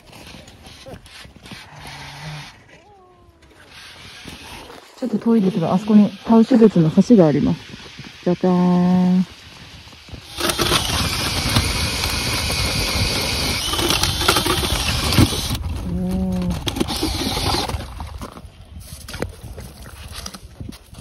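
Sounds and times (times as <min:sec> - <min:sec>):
drill grinding through ice: 0:00.0 - 0:21.0.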